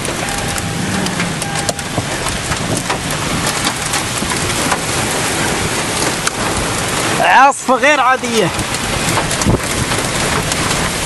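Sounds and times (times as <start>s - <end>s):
hailstones ticking: 0.0s - 11.0s
heavy rain on car: 0.0s - 11.0s.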